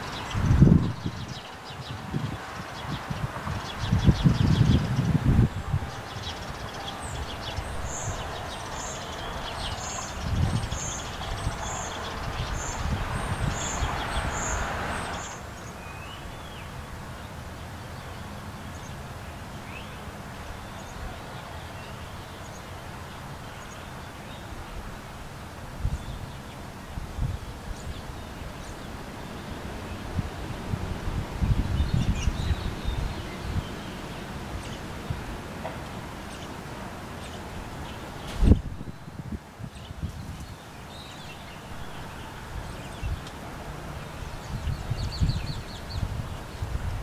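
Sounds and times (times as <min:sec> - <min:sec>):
songbirds calling: 0:00.0 - 0:47.0.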